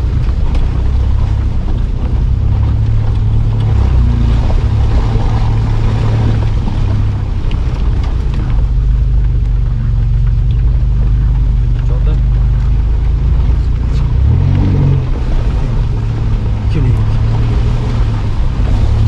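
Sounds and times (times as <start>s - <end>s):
engine droning under load: 0.0s - 19.0s.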